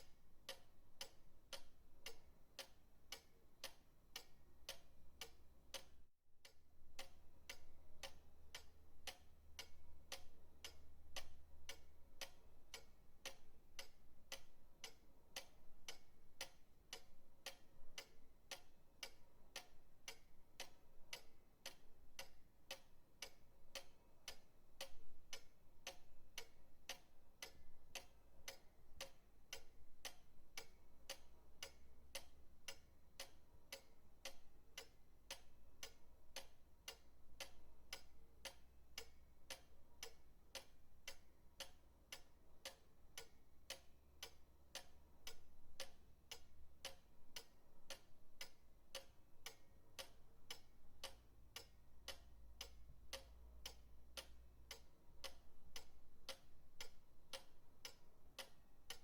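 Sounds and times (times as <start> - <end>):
pendulum clock ticking: 0.0 - 59.0.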